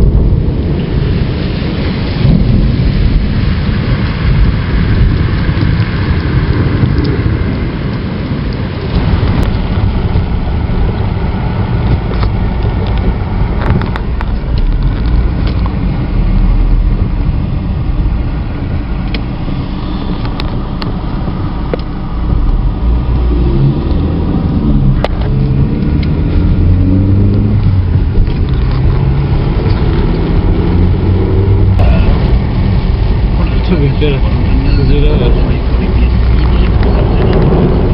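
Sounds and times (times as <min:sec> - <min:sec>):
car engine: 0:00.0 - 0:37.9
tyres on wet road: 0:00.0 - 0:37.9.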